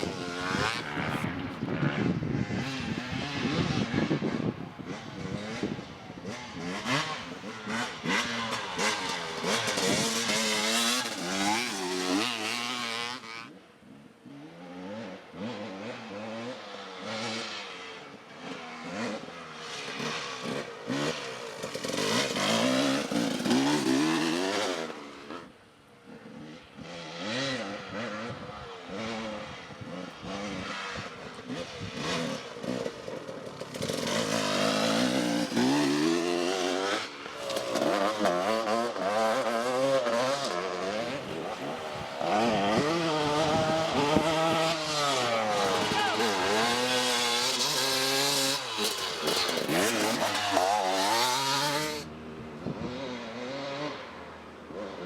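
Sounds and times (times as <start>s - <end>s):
off-road vehicle engines revving: 0.0s - 55.0s.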